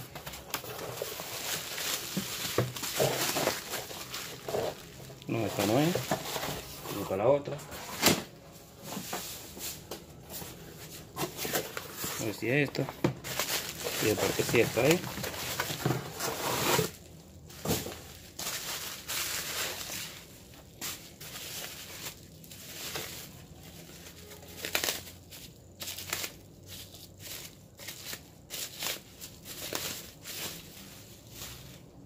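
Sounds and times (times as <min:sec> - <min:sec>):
packaging crinkling and rustling: 0:00.0 - 0:32.0.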